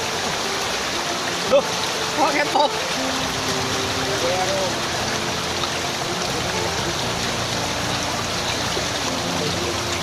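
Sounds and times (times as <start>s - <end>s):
river water rushing through trap: 0.0s - 10.0s.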